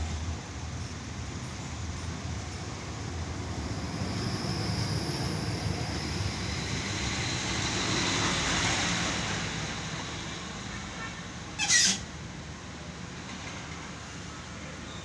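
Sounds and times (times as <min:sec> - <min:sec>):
electric tram hum and rumble: 0:00.0 - 0:15.0.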